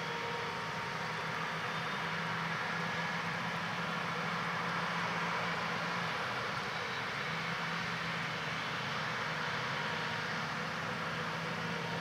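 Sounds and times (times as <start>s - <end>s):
tractor engine humming: 0.0s - 12.0s.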